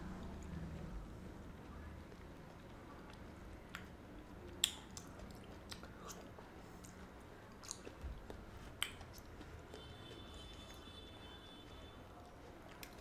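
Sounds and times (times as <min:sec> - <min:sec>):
chewing and lip smacks: 0:00.2 - 0:13.0.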